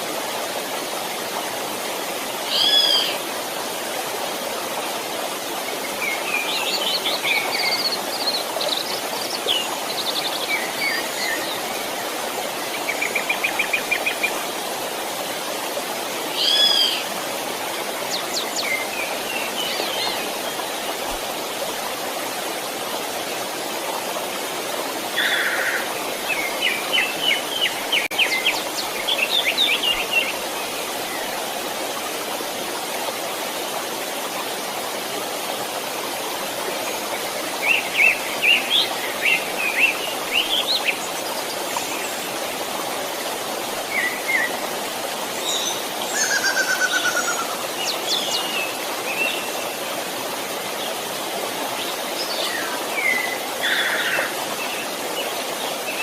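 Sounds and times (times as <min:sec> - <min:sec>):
creek running: 0:00.0 - 0:56.0.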